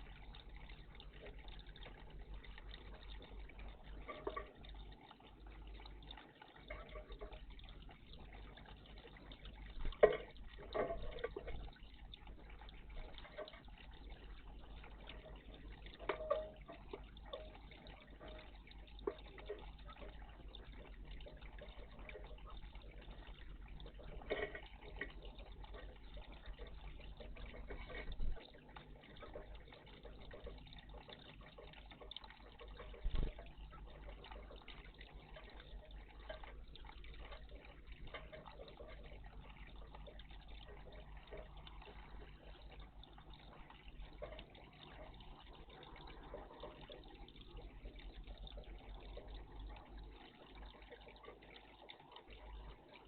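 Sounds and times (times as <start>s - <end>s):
water splashing and trickling: 0.0s - 53.0s.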